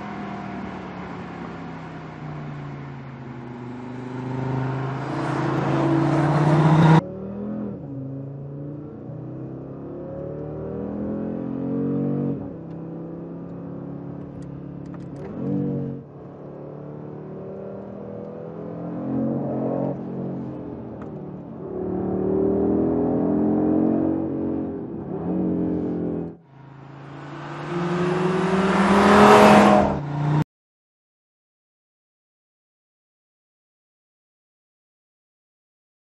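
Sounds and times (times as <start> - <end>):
car engine accelerating hard: 0.0 - 30.4.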